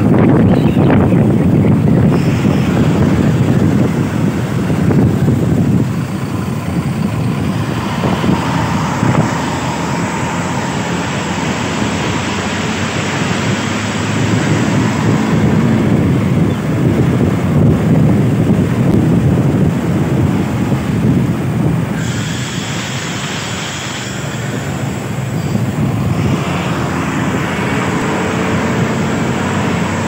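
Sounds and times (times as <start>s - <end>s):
low rumble of engine and tyres: 0.0s - 30.0s
wind rushing over microphone: 0.0s - 30.0s.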